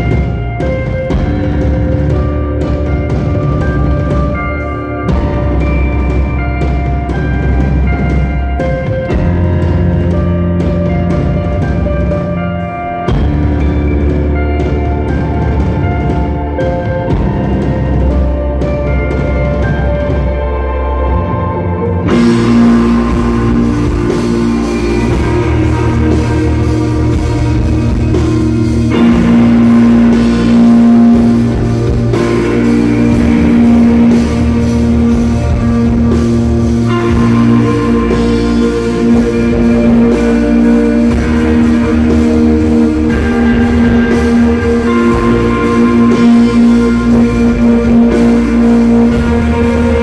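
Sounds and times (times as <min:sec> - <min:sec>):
instrumental rock music: 0:00.0 - 0:50.0.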